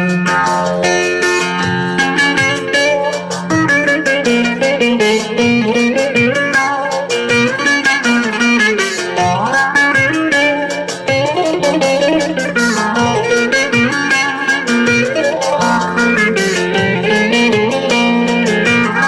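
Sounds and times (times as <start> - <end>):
electric saz melody: 0.0 - 19.0
steady beat: 0.0 - 19.0.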